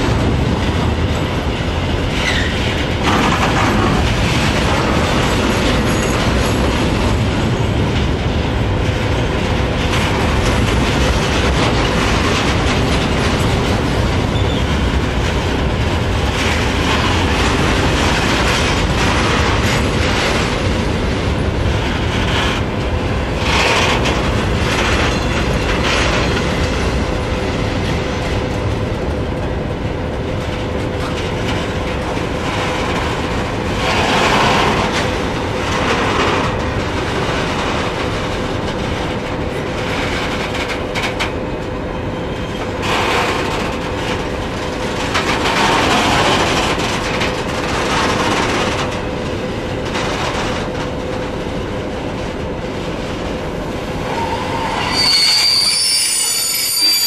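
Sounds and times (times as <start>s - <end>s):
freight train rumbling past: 0.0s - 57.0s
train wheels clattering on track: 0.0s - 57.0s.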